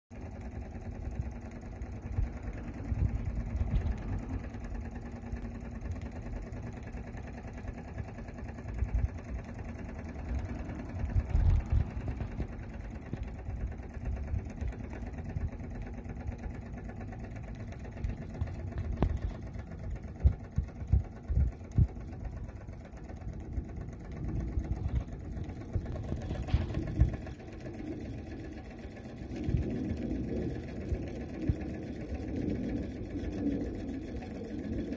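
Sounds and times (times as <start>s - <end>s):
toy steam engine running: 0.1s - 34.9s.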